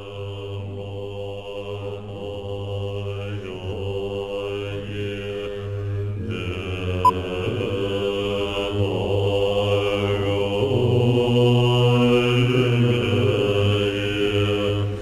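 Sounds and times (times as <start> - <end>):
male voices droning chant: 0.0 - 15.0.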